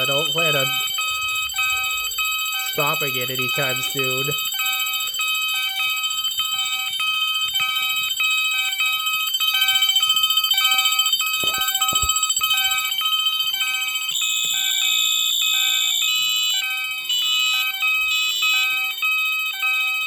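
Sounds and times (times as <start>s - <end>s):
higher loud alarm tone: 0.0s - 20.0s
steady shrill alarm tone: 0.0s - 20.0s
stepped multi-tone alarm pattern: 0.0s - 20.0s.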